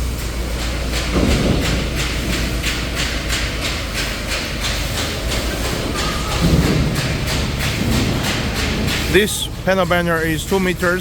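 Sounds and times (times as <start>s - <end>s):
factory machinery humming: 0.0s - 11.0s
regular machine ticking: 0.4s - 11.0s.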